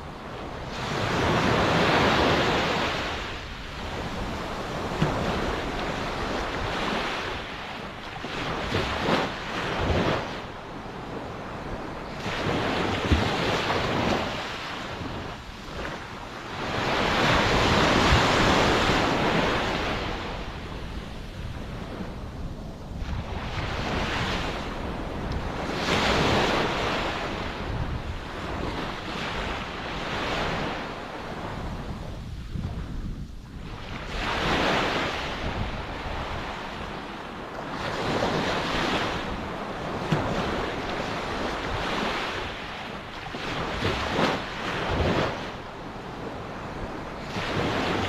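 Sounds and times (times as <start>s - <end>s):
ocean waves breaking: 0.0s - 48.0s
wind rumbling on microphone: 0.0s - 48.0s.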